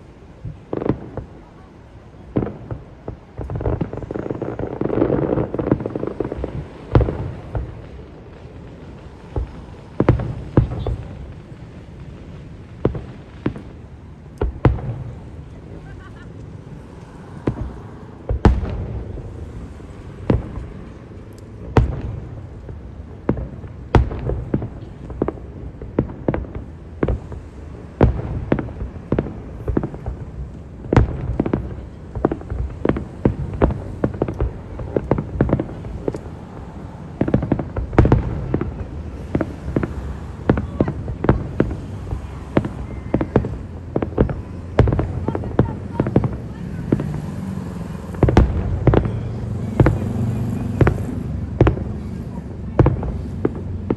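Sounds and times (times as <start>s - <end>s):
fireworks shells bursting with booms: 0.0s - 53.9s.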